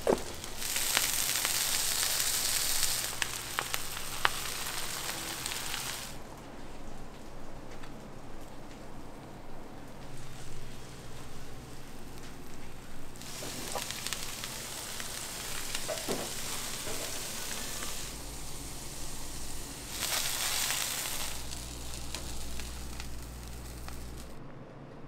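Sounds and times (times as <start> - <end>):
food sizzling in frying: 0.0 - 6.2, 10.0 - 24.4.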